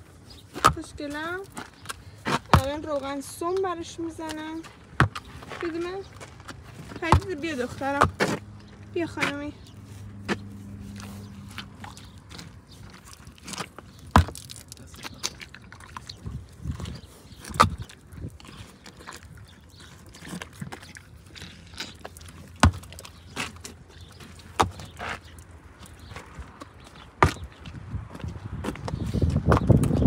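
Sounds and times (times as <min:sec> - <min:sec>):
horse chewing watermelon: 0:00.0 - 0:30.0.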